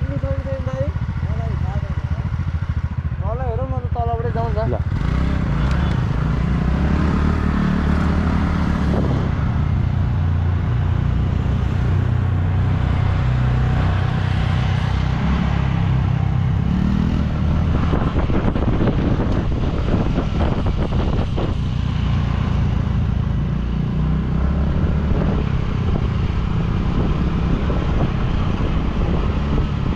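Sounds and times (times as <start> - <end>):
vehicle engine running: 0.0 - 29.9.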